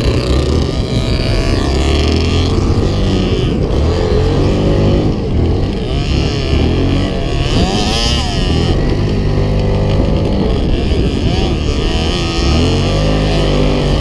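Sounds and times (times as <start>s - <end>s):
quads and dirt bikes revving: 0.0s - 14.0s.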